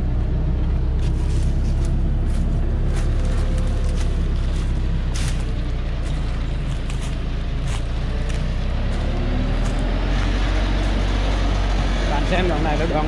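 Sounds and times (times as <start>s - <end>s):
truck diesel engine at low revs: 0.0s - 13.0s.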